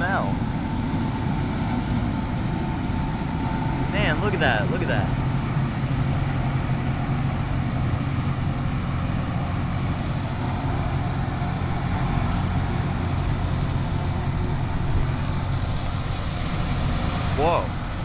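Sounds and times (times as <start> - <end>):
diesel engine drone: 0.0 - 18.0.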